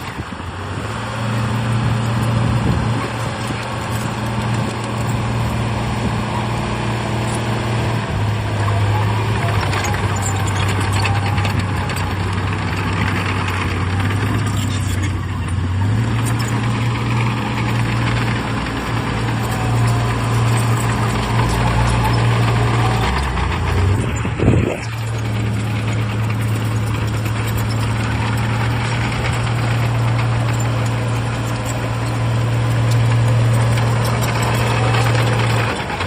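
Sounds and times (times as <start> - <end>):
heavy diesel engine running: 0.0 - 36.0
machinery rattling and clattering: 0.0 - 36.0.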